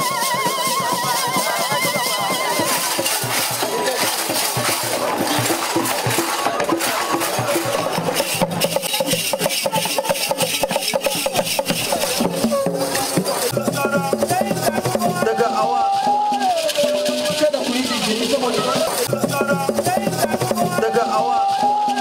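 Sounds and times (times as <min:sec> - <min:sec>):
shakers rattling: 0:00.0 - 0:22.0
sharp percussion strikes: 0:00.0 - 0:22.0.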